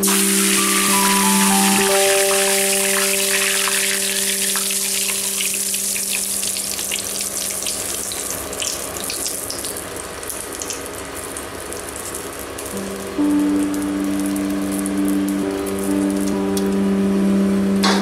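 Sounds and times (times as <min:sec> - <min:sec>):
chillies sizzling in hot oil: 0:00.0 - 0:16.4.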